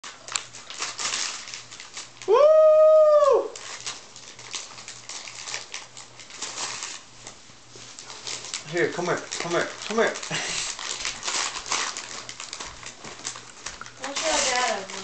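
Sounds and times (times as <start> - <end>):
wrapping paper crinkling and tearing: 0.0 - 15.0.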